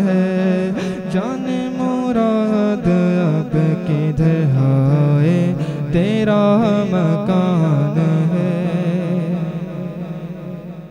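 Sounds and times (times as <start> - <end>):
man singing into a microphone: 0.0 - 10.9.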